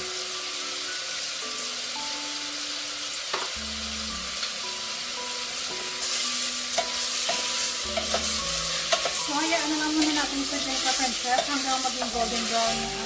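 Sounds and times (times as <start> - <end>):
pork sizzling in hot oil: 0.0 - 13.0.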